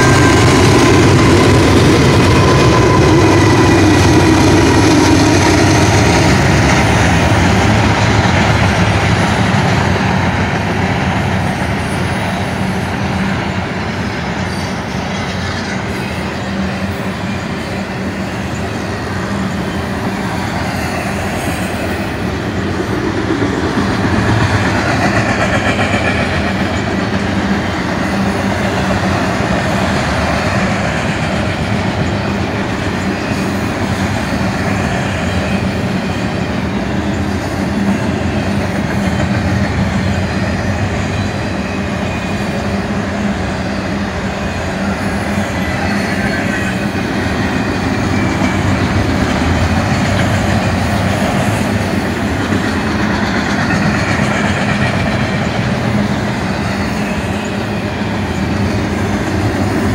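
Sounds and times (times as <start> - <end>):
diesel locomotive whine: 0.0 - 59.9
train wheels rolling on rails: 0.0 - 59.9.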